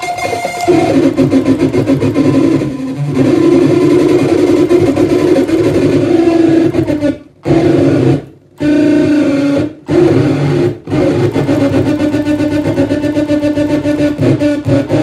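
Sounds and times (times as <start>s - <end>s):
saxophone feedback drone: 0.0s - 15.0s.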